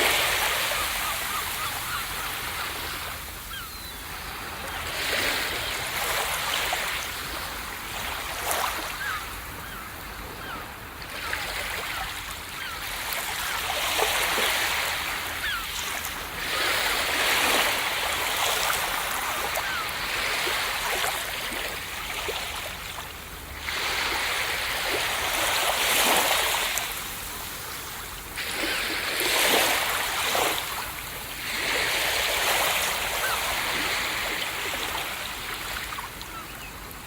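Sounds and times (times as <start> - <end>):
ocean waves breaking on beach: 0.0 - 37.0.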